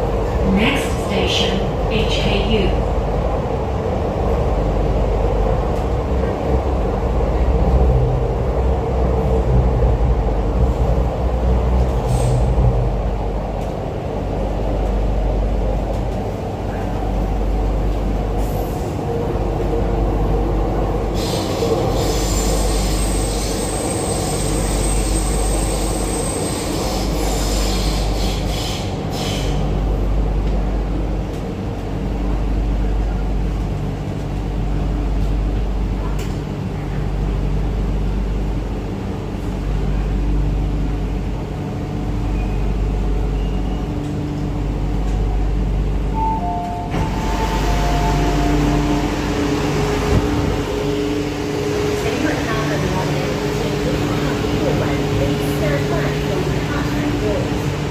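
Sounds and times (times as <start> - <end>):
train rumbling in tunnel: 0.0 - 57.9.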